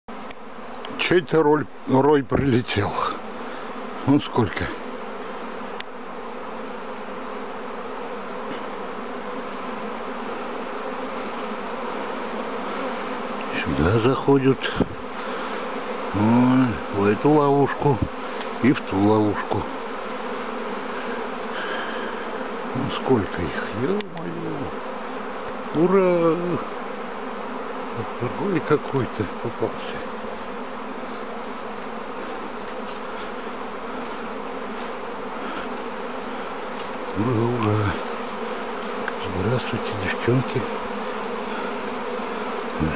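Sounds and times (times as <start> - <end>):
bee swarm buzzing: 0.1 - 42.9.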